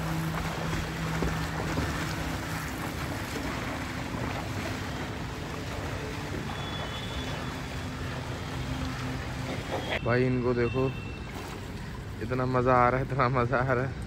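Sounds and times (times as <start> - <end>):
pool water splashing: 0.0 - 14.0.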